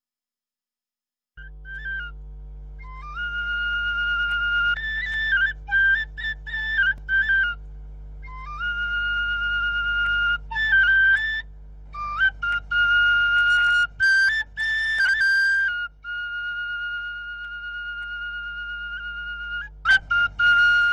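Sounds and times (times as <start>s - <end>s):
solo flute melody: 1.4s - 7.6s, 8.2s - 20.9s.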